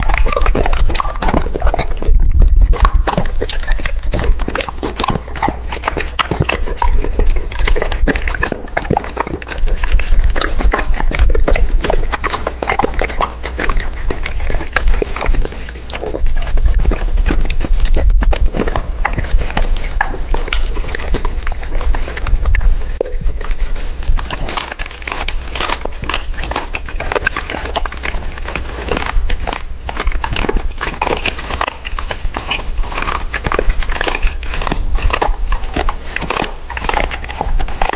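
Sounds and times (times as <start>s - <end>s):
dog chewing crunchy food: 0.0s - 37.9s
low rumble: 0.0s - 37.9s.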